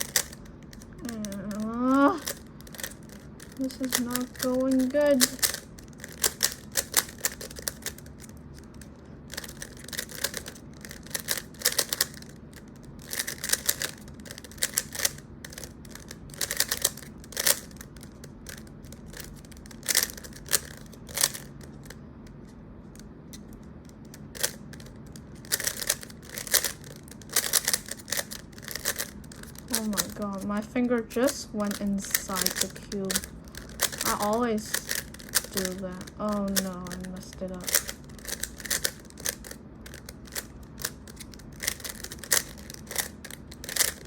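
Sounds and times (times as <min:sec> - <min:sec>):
plastic puzzle cube clicks: 0:00.0 - 0:22.0, 0:23.3 - 0:30.2, 0:32.1 - 0:44.0.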